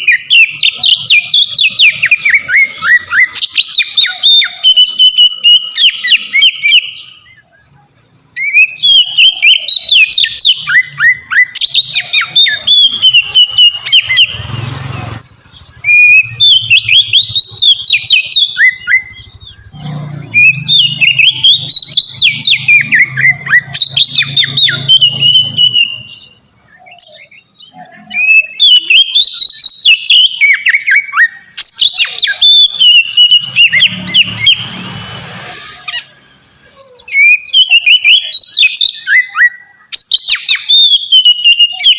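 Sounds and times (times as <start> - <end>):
songbird whistling and trilling: 0.0 - 14.7, 15.5 - 34.9, 35.5 - 41.9.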